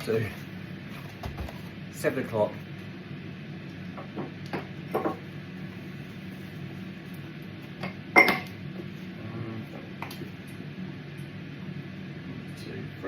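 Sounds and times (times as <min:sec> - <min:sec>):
air fryer humming: 0:00.0 - 0:13.0.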